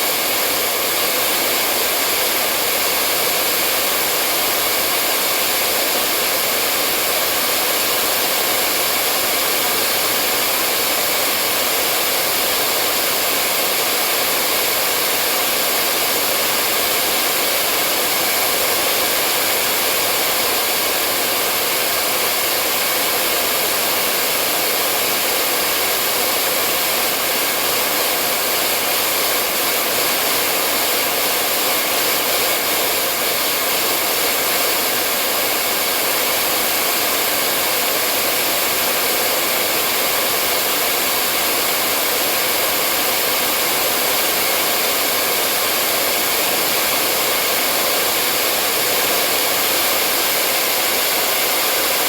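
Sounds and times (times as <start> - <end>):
hair dryer blowing: 0.0 - 52.0.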